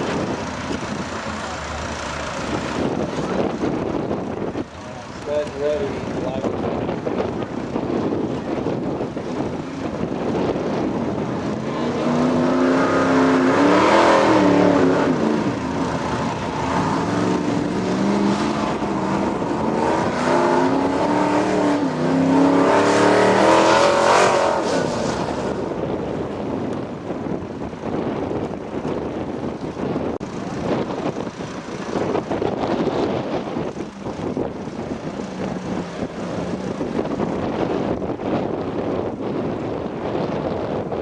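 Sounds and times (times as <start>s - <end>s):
truck engine revving hard: 0.0s - 28.2s, 29.1s - 40.9s.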